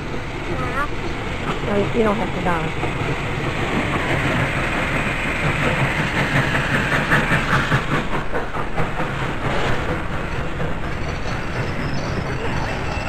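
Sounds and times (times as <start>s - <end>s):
steam locomotive rumble and hiss: 0.0s - 13.0s.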